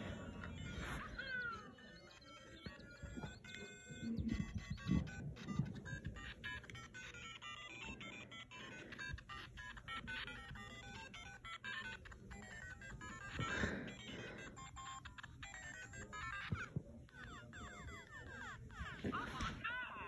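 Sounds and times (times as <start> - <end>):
electronic beeping melody: 0.0 - 20.0.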